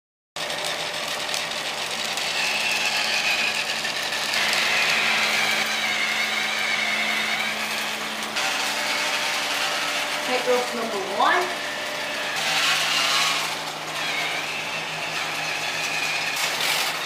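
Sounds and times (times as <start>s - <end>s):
toy motor and gears whining: 0.4s - 17.0s.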